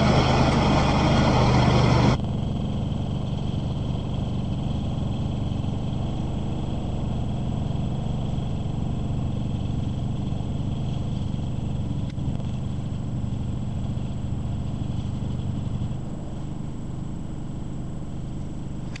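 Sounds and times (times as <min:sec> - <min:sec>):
trencher engine running: 0:00.0 - 0:19.0.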